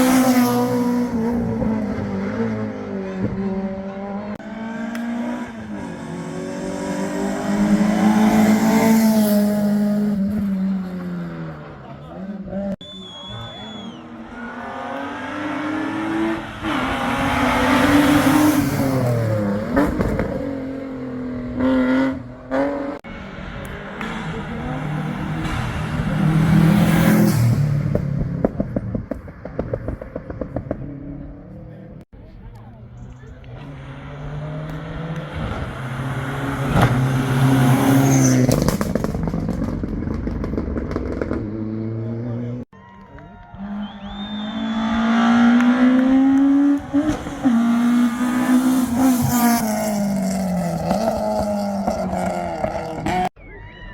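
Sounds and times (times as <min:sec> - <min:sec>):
car passing loudly: 0:00.0 - 0:31.6, 0:33.4 - 0:42.7, 0:43.5 - 0:53.3
rally car engine revving: 0:00.0 - 0:32.0, 0:33.0 - 0:42.7, 0:43.7 - 0:53.3.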